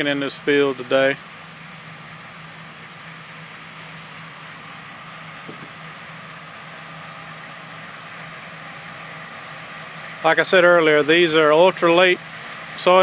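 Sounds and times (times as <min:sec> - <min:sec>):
hiss of threshing and fans: 0:00.0 - 0:13.0
low engine hum: 0:00.0 - 0:13.0.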